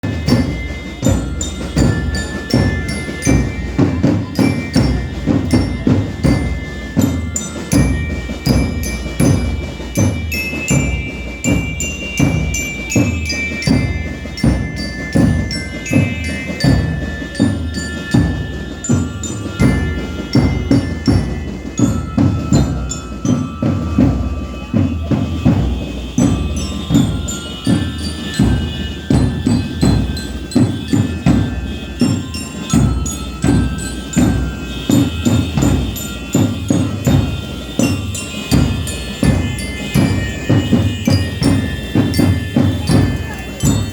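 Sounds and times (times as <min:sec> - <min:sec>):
bell lyre melody: 0:00.0 - 0:43.9
drum beat: 0:00.0 - 0:43.9
marching band playing: 0:00.0 - 0:43.9.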